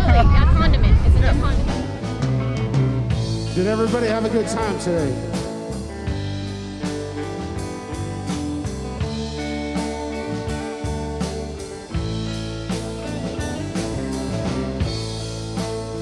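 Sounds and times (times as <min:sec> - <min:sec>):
electric bass: 0:00.0 - 0:16.0
electric guitars: 0:00.0 - 0:16.0
drum kit beat: 0:00.9 - 0:16.0.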